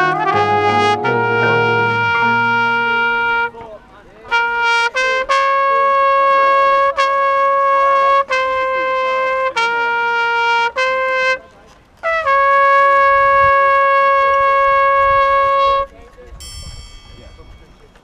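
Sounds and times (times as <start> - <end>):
brass horns playing held notes: 0.0 - 11.4, 12.0 - 15.9.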